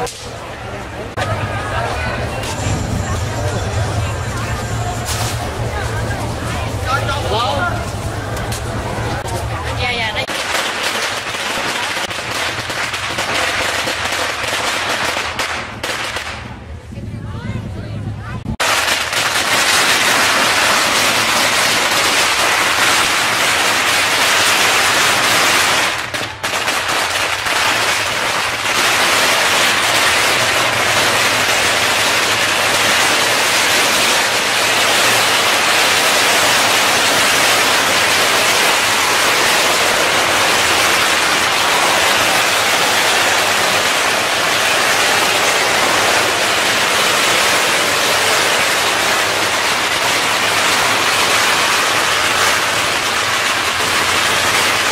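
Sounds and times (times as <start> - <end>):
firecrackers crackling: 0.0 - 16.9, 18.5 - 54.9.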